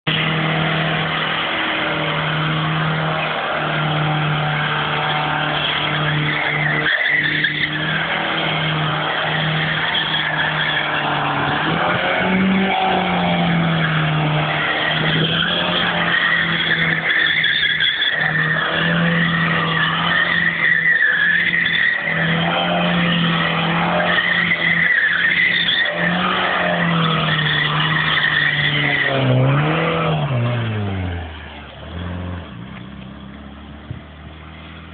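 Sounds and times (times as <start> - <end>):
car engine revving: 0.0 - 34.9
tyres squealing: 0.1 - 33.4.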